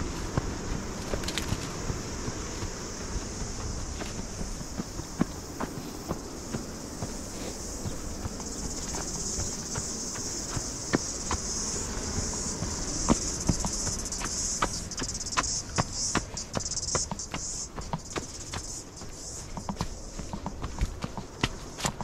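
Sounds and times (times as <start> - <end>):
footsteps on dirt trail: 0.0 - 22.0
insects shrilling: 0.0 - 22.0.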